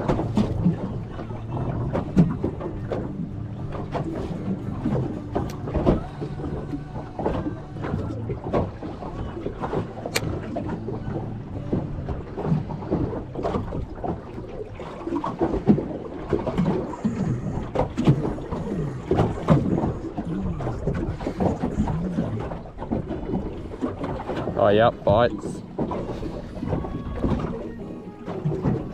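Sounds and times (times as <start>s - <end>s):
low steady hum: 0.0s - 28.9s
water knocking against boat hull: 0.0s - 28.9s.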